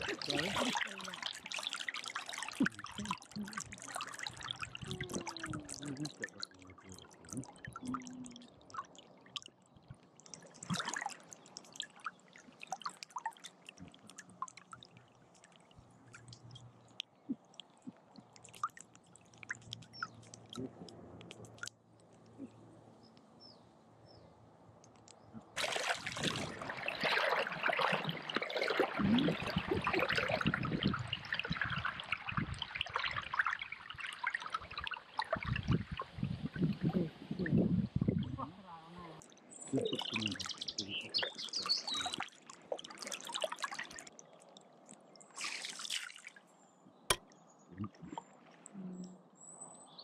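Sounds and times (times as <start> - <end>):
water pouring and splashing: 0.0 - 22.2, 25.5 - 38.3, 39.2 - 46.5
water dripping and trickling: 0.0 - 22.5, 24.8 - 46.5.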